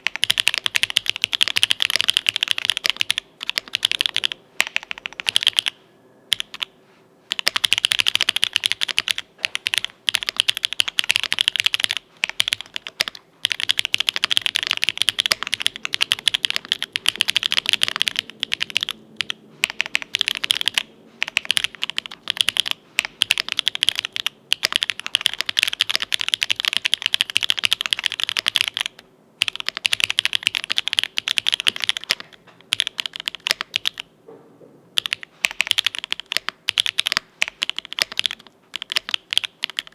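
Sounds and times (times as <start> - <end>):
mechanical keyboard typing: 0.0 - 6.7, 7.3 - 34.1, 35.0 - 39.9.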